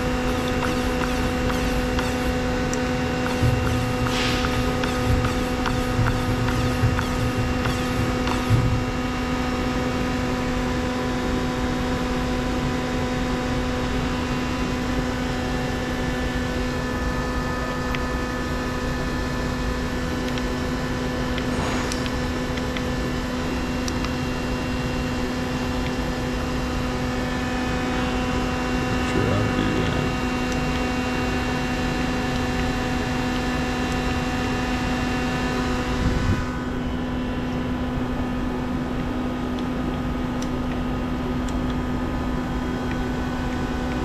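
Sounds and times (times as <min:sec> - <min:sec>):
electrical machine hum: 0:00.0 - 0:44.0
fan-like noise: 0:00.0 - 0:44.0.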